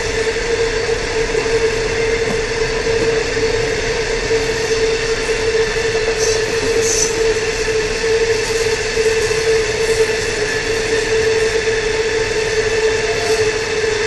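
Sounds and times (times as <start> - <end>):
train wheels rumbling and rattling: 0.0 - 14.0.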